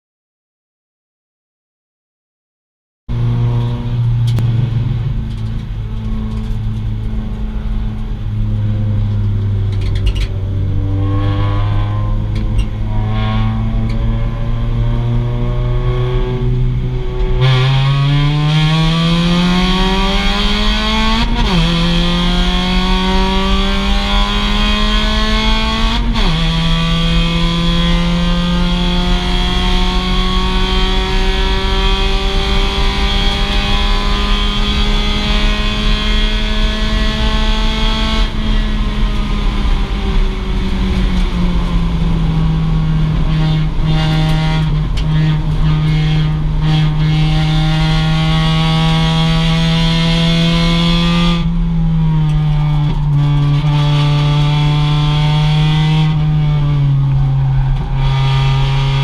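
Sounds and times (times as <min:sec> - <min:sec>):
car engine accelerating hard: 0:03.1 - 0:59.0
road and wind noise: 0:03.1 - 0:59.0.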